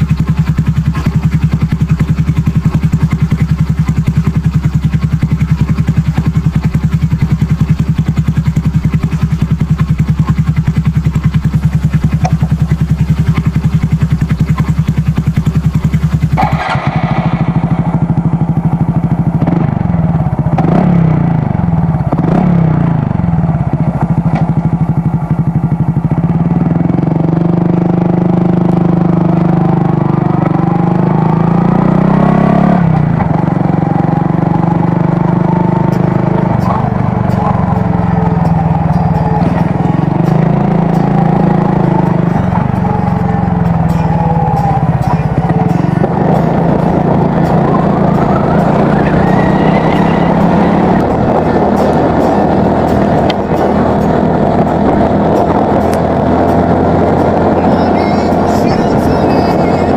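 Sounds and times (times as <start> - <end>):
motorcycle accelerating: 0.0 - 59.9
motorcycle engine idling: 0.0 - 59.9.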